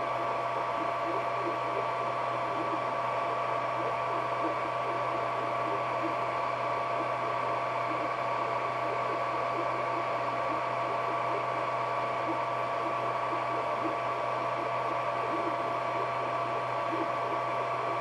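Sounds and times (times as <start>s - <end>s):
printer fan noise: 0.0s - 18.0s.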